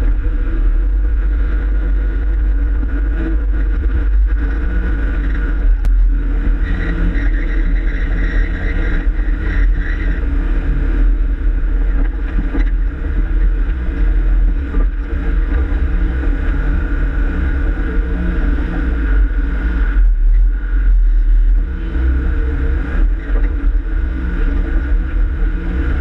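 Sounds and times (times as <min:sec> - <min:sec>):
vehicle engine rumbling under load: 0:00.0 - 0:26.0
wind noise on microphone: 0:00.0 - 0:26.0.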